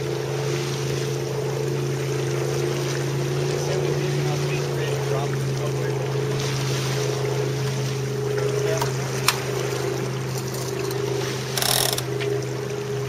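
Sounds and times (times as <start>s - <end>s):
wind and water rushing past hull: 0.0s - 13.0s.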